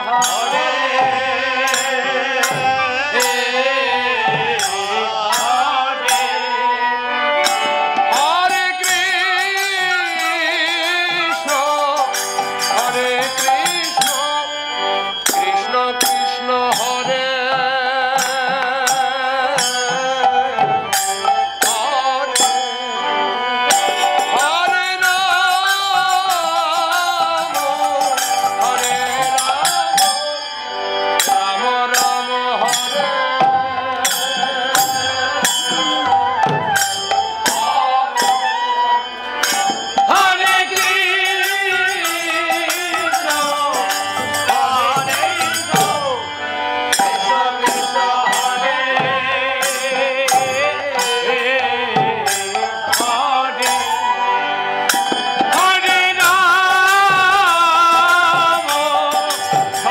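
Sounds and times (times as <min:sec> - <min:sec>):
hand drums: 0:00.0 - 0:23.0, 0:23.6 - 0:59.9
hand cymbals: 0:00.0 - 0:59.9
harmonium melody: 0:00.0 - 0:59.9
man singing: 0:00.0 - 0:59.9.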